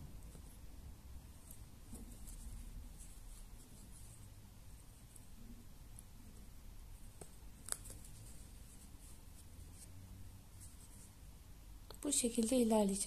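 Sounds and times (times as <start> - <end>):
crochet hook rustling: 0.0 - 11.3.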